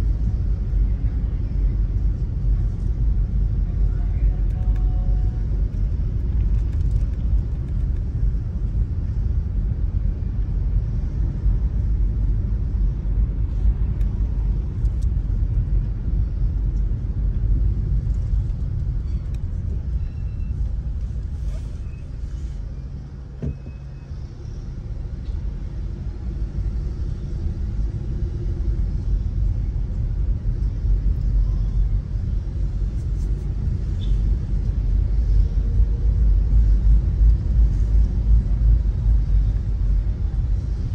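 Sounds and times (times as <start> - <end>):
road and engine rumble inside car: 0.0 - 40.9.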